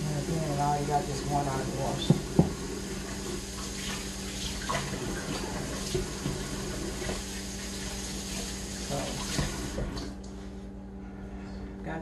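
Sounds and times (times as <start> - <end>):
tap water running: 0.0 - 10.3.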